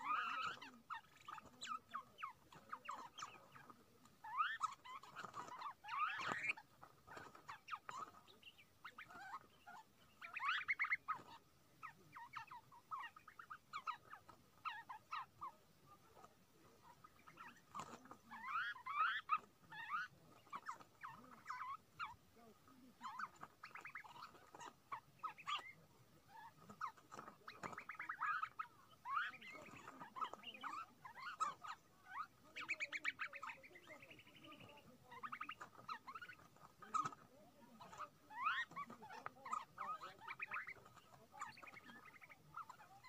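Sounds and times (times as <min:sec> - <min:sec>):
flock of small birds chirping: 0:00.0 - 0:43.0.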